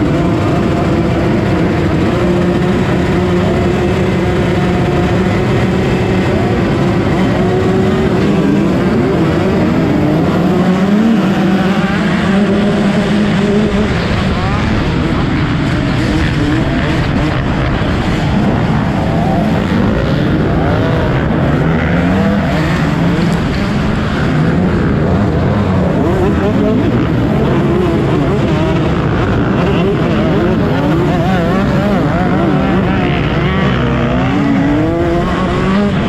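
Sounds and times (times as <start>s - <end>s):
motocross bike engines revving: 0.0s - 36.0s.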